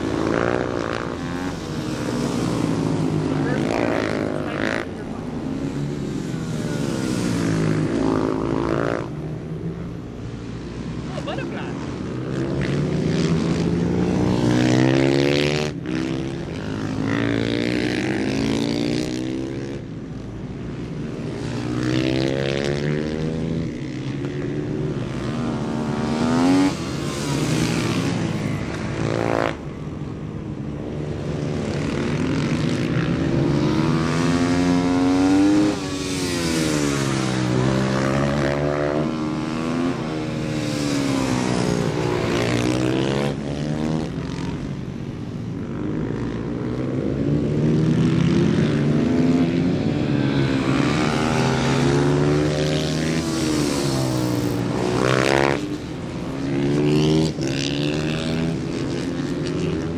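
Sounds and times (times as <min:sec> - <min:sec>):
race motorcycles at full throttle: 0:00.0 - 0:59.9.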